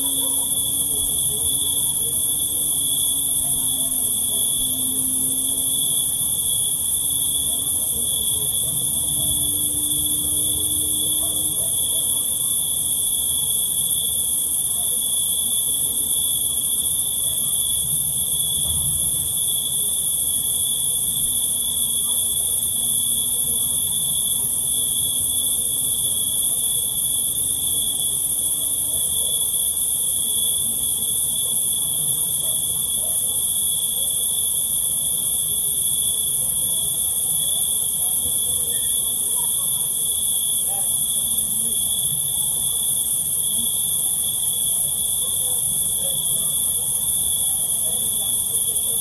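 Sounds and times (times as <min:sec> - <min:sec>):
crickets trilling: 0:00.0 - 0:49.0
high insect hiss: 0:00.0 - 0:49.0.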